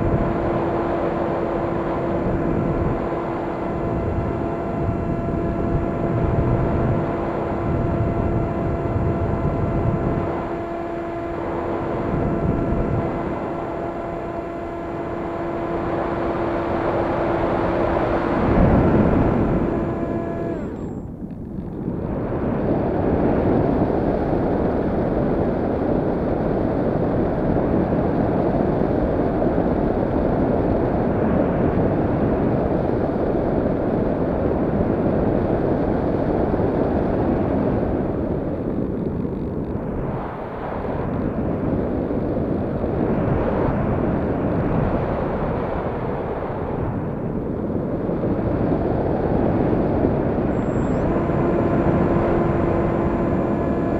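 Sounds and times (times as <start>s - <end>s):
wind rushing over camera: 0.0s - 53.9s.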